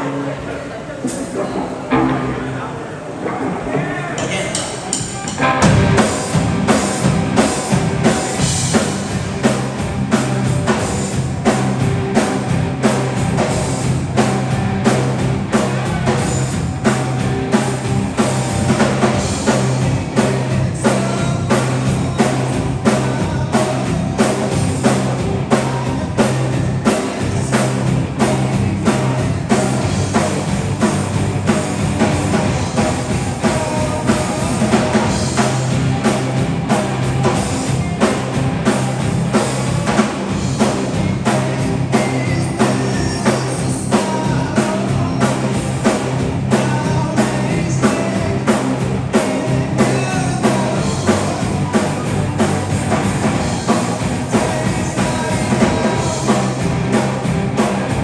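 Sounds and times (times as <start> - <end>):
bass guitar: 0.0 - 58.0
electric guitars: 0.0 - 58.0
drum kit beat: 4.2 - 58.0.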